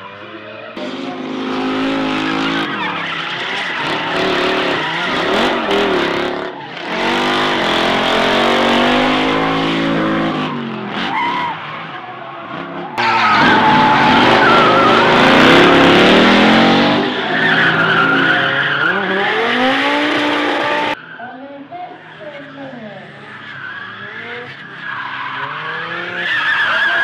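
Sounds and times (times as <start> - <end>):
car engines revving: 0.0 - 27.0
tyres skidding and squealing: 0.0 - 27.0.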